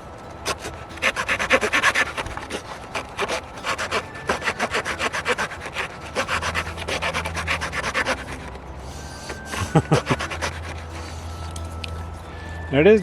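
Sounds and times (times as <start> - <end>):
small saw rasping through wood: 0.0 - 12.2.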